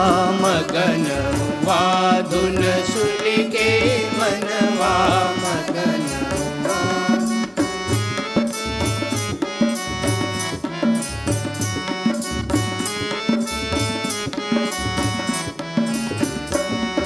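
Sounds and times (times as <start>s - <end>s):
hand drums playing rhythm: 0.0s - 17.0s
harmonium melody: 0.0s - 17.0s.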